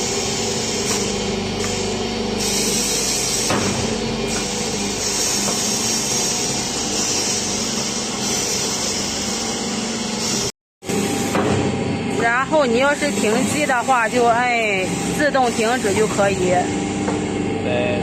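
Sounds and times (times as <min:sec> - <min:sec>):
drilling machine motors running: 0:00.0 - 0:18.0.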